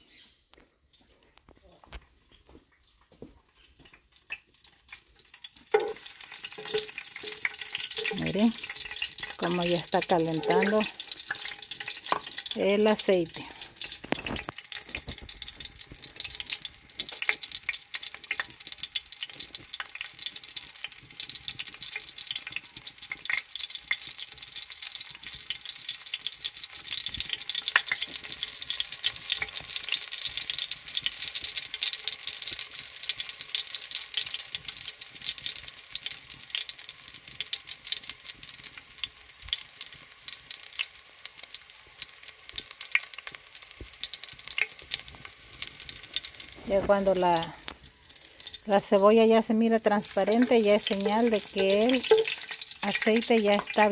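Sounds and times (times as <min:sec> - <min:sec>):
onion sizzling in oil: 0:01.9 - 0:53.9.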